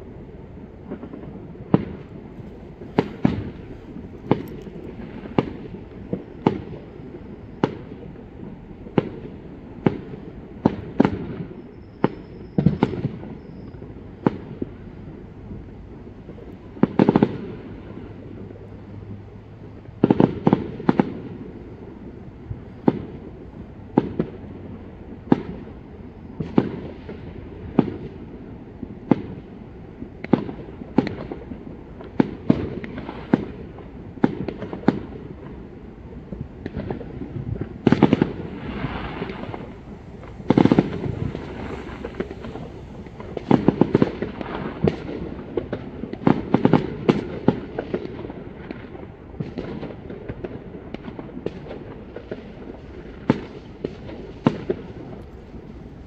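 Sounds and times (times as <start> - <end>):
fireworks bangs: 0.0 - 15.6, 16.2 - 18.5, 19.8 - 56.0
fireworks crackling volleys: 0.0 - 56.0.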